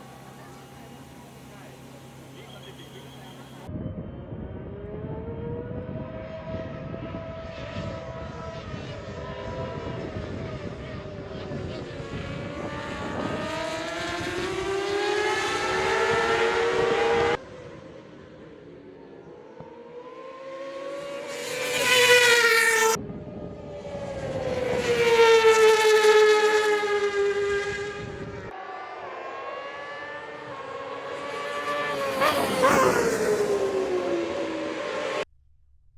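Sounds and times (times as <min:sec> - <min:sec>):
racing motorcycles passing by: 0:00.0 - 0:03.7, 0:05.2 - 0:35.2.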